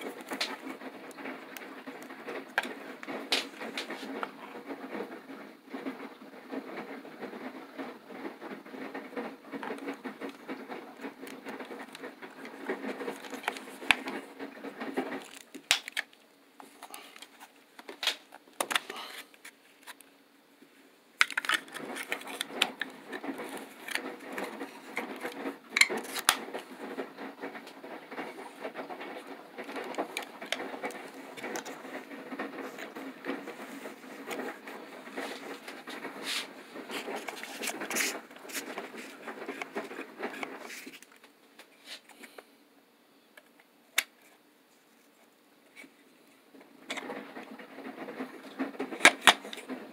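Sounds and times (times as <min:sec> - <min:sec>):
plastic box scratching and rustling: 0:00.0 - 0:20.0, 0:21.2 - 0:41.2, 0:46.8 - 0:49.9.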